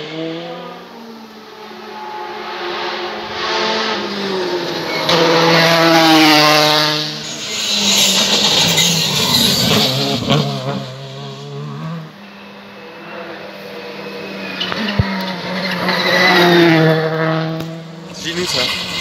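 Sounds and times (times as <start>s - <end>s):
rally car engines at full throttle: 0.0s - 19.0s.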